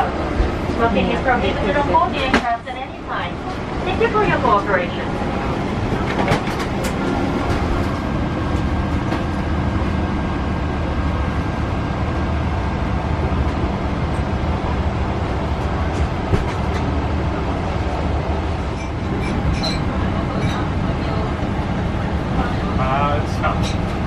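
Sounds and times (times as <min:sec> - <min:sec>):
aircraft cabin rumble and hiss: 0:00.0 - 0:24.0.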